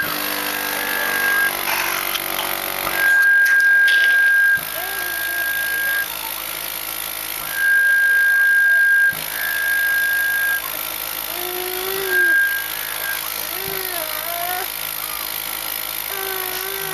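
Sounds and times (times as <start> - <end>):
cough assist machine hiss and whine: 0.0 - 16.9.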